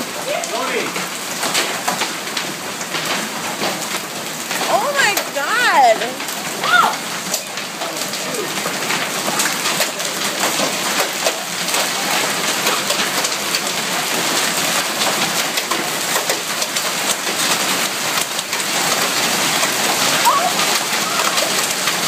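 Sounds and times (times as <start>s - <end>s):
hailstones ticking on pavement: 0.0s - 22.0s
heavy rain hissing: 0.0s - 22.0s.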